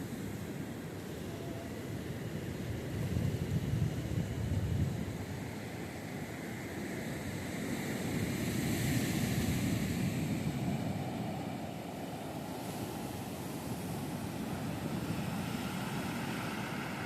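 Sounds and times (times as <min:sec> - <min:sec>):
wave washing onto beach: 0:00.0 - 0:17.0.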